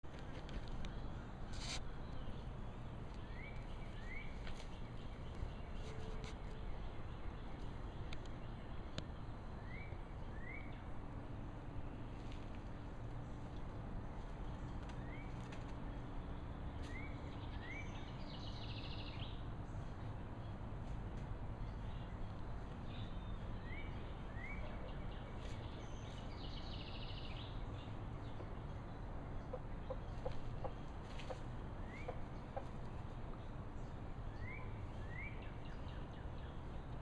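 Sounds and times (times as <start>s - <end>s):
low background hum: 0.1s - 37.0s.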